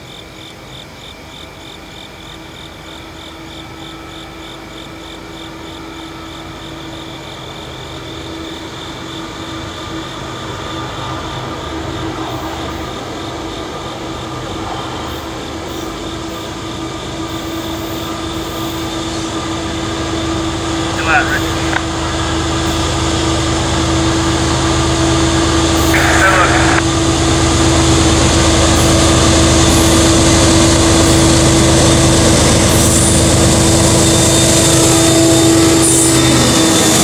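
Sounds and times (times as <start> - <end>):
insects chirping: 0.0 - 30.2
diesel train approaching: 0.0 - 37.0.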